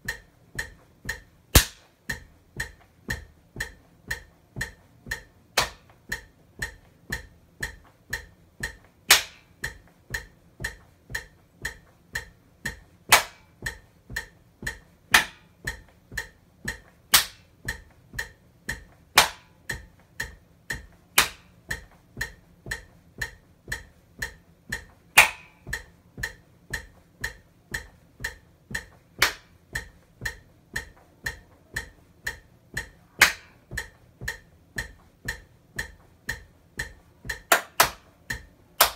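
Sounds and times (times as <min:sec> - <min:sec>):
metronome clicking: 0:00.0 - 0:38.9.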